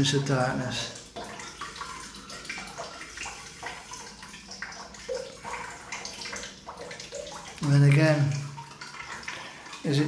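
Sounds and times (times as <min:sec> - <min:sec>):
water running and splashing: 0:00.0 - 0:10.0.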